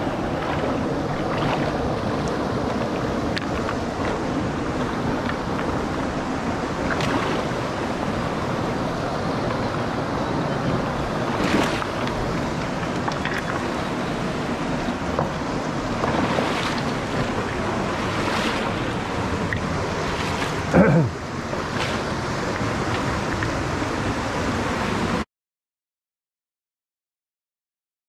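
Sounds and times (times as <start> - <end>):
river rushing over rocks: 0.0 - 25.2.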